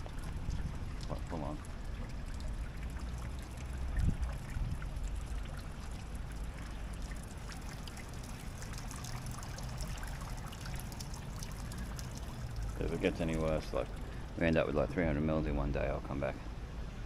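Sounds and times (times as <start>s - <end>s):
raindrops pattering: 0.0s - 15.8s.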